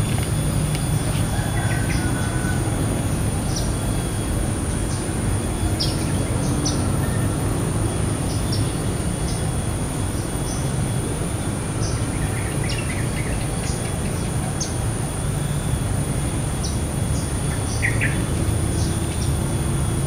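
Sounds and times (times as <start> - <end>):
high-pitched whine: 0.0 - 20.0.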